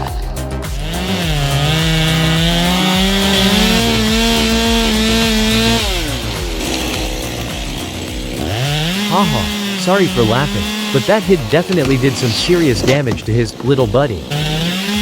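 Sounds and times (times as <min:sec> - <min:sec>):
chainsaw cutting at full throttle: 0:00.0 - 0:15.0.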